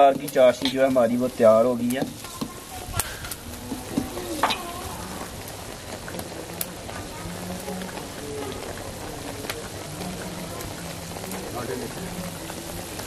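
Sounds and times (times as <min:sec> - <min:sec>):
syrup bubbling with sizzling hiss: 0:00.0 - 0:13.0.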